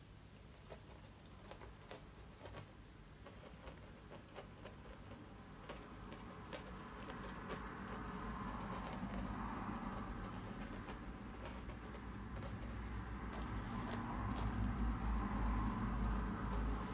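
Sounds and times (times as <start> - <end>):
brush tapping on canvas: 0.7 - 16.9.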